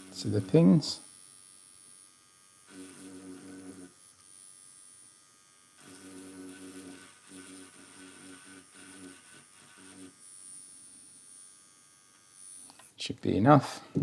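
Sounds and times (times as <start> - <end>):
small electric tool buzzing: 0.0 - 13.5.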